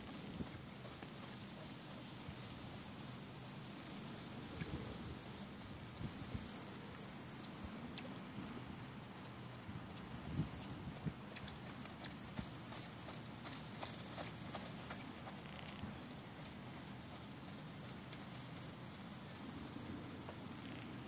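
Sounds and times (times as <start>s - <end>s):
horse hooves on sand: 0.0s - 8.4s, 9.1s - 21.0s.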